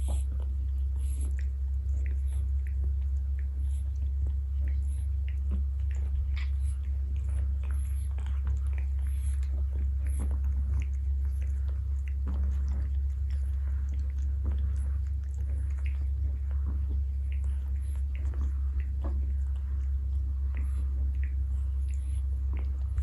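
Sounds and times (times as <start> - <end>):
cat chewing with crunches: 0.0 - 23.0
steady low hum: 0.0 - 23.0.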